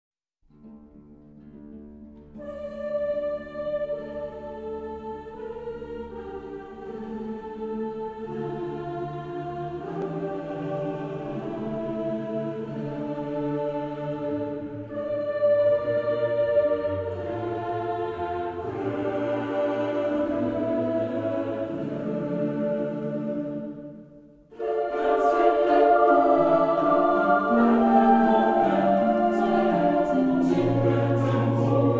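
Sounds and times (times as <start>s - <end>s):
slow choral singing: 2.3s - 31.9s.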